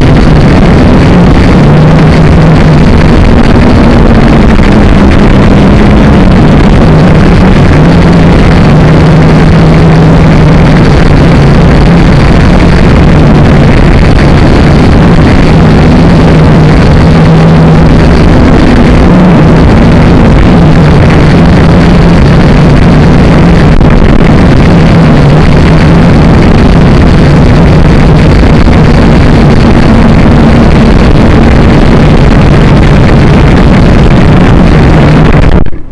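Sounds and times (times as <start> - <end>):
drone motors buzzing whine: 0.0 - 35.9.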